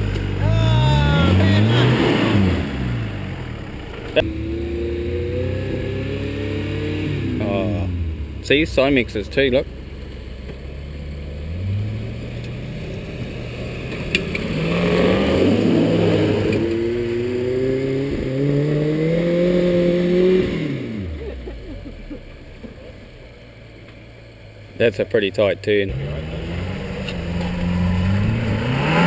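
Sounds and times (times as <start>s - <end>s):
car engine revving under load: 0.0s - 24.8s, 25.8s - 29.0s.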